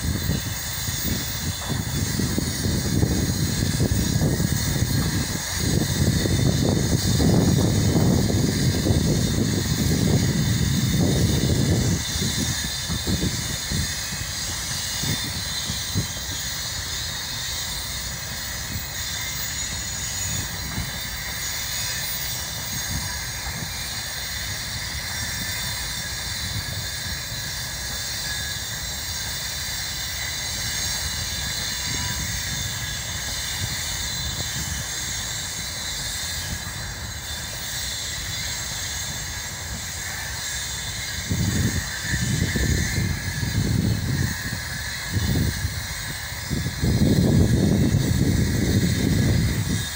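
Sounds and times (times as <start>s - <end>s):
high hiss: 0.0s - 49.9s
train wheels rumbling on rails: 0.0s - 49.9s.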